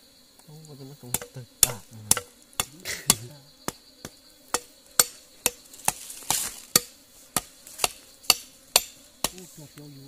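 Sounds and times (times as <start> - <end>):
thin insect whine: 0.0 - 10.0
machete chopping meat: 1.2 - 9.4.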